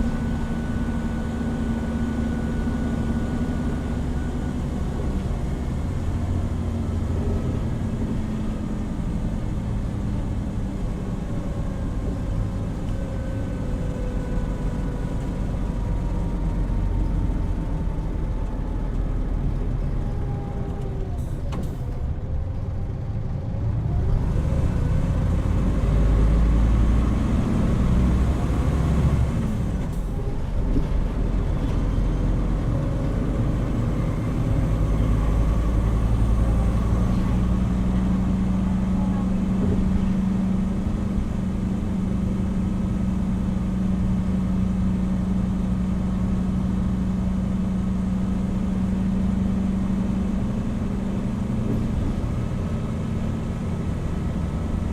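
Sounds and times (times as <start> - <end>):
bus engine and drivetrain whine: 0.0 - 54.9.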